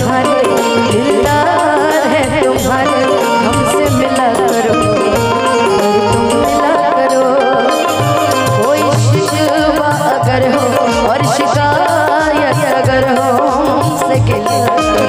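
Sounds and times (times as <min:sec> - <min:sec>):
melodic lead line: 0:00.0 - 0:15.0
steady drum beat: 0:00.0 - 0:15.0.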